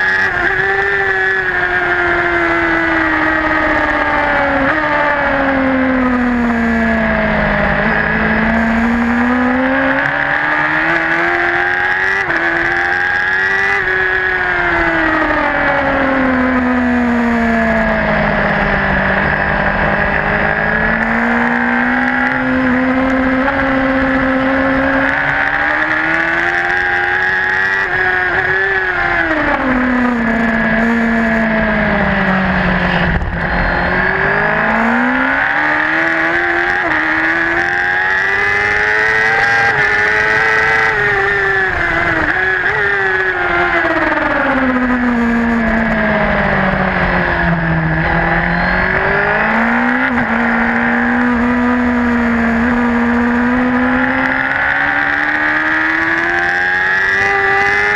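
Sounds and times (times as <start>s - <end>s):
racing motorbike engine: 0.0s - 57.9s.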